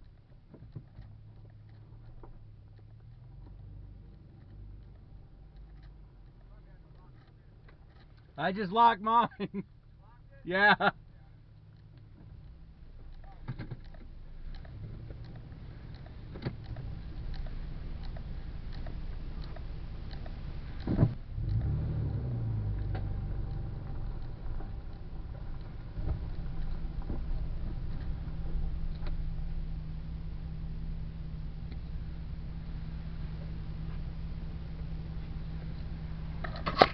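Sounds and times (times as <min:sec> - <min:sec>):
engine and road rumble: 0:00.0 - 0:36.9.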